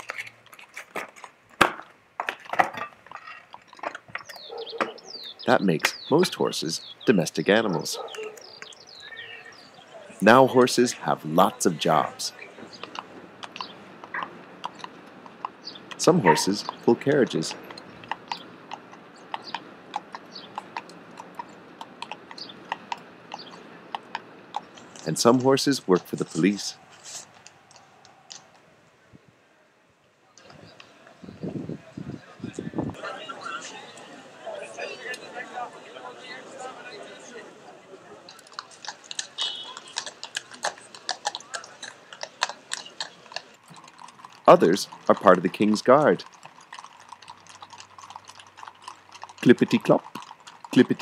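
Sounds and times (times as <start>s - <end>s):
horse hooves clip-clopping on pavement: 0.0s - 28.7s, 38.1s - 51.0s.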